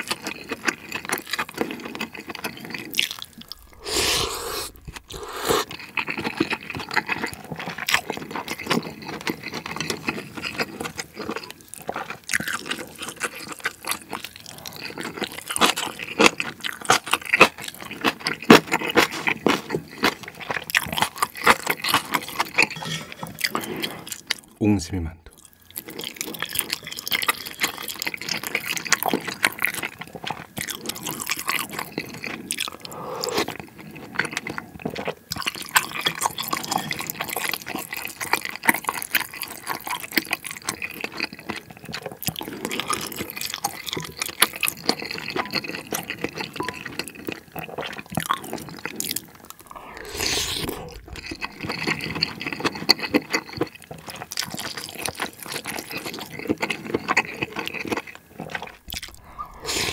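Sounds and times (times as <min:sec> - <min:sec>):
wet chewing and slurping: 0:00.0 - 0:24.6, 0:25.3 - 0:59.9.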